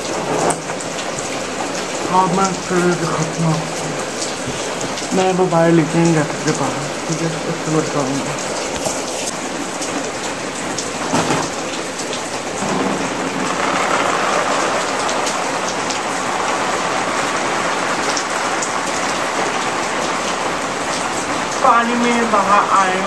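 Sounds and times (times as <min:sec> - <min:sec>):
heavy rain on concrete roof: 0:00.0 - 0:23.0.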